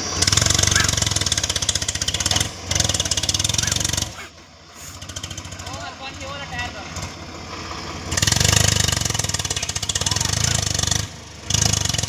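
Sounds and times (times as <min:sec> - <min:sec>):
tractor diesel engine revving: 0:00.0 - 0:12.0.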